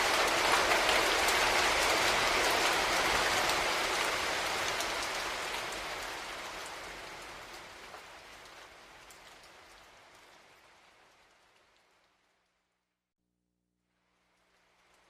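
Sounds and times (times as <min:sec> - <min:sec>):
rain falling: 0:00.0 - 0:12.6, 0:14.3 - 0:15.0.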